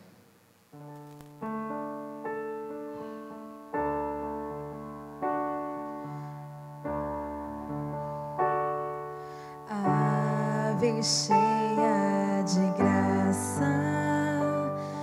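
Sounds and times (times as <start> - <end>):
piano chords: 0.7 - 15.0.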